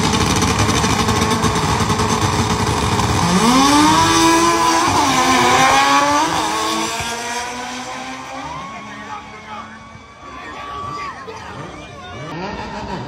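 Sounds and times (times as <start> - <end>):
car accelerating engine rising: 0.0 - 13.0
race car engines revving: 0.0 - 13.0.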